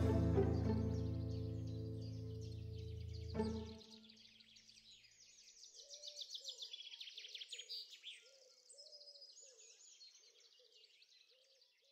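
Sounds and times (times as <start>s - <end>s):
high bird chirps and trills: 0.0s - 9.6s.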